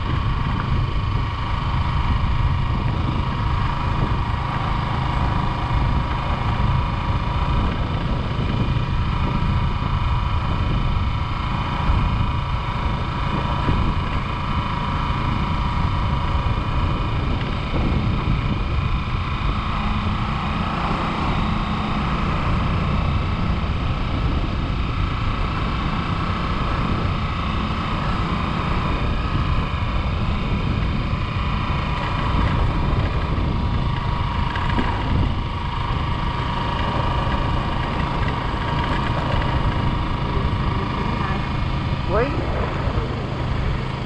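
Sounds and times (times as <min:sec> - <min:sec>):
motorcycle engine cruising: 0:00.0 - 0:44.0
wind buffeting microphone: 0:00.0 - 0:44.0.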